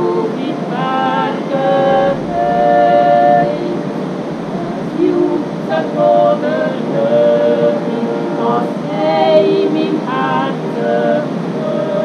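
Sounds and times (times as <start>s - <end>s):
accordion: 0.0s - 12.0s
women singing in harmony: 0.0s - 12.0s.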